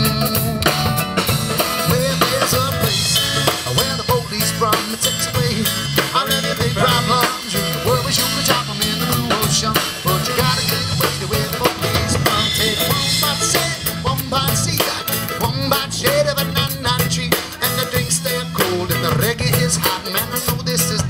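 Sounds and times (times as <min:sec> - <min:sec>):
drum kit beat: 0:00.0 - 0:21.0
live band playing instrumental: 0:00.0 - 0:21.0.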